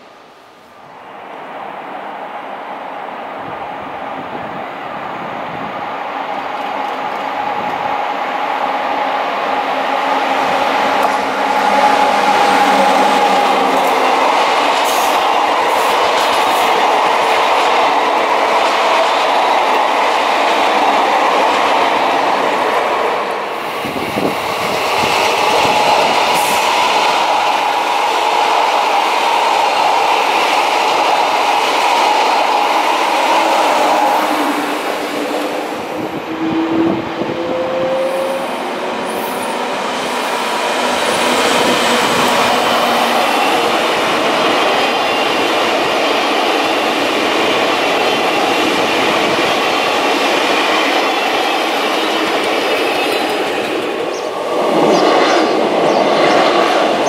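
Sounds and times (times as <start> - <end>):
train wheels on rails: 3.1 - 57.0.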